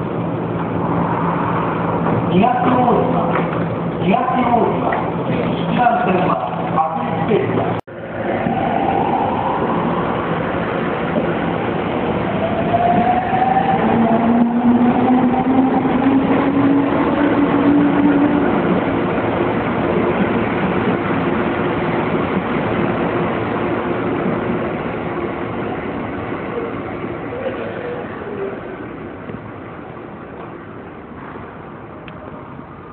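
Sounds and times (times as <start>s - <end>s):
train cars rumbling on rails: 0.0s - 32.9s.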